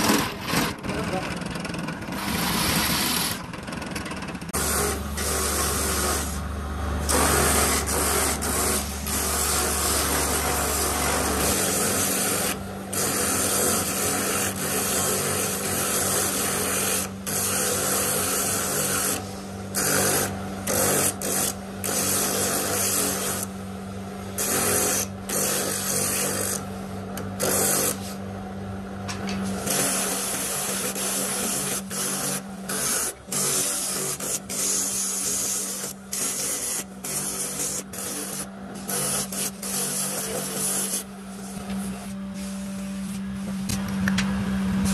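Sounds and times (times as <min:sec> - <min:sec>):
wood rasping on abrasive wheel: 0:00.0 - 0:01.1, 0:01.7 - 0:03.8, 0:04.5 - 0:23.5, 0:24.2 - 0:28.2, 0:29.4 - 0:43.5
electric motor hum: 0:04.3 - 0:44.9.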